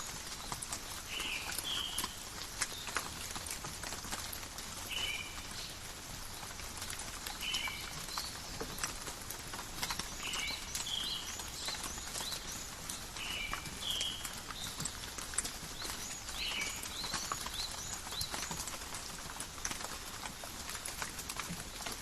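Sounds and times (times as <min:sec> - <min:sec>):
light rain falling: 0:00.0 - 0:22.0
raindrops ticking: 0:00.0 - 0:22.0.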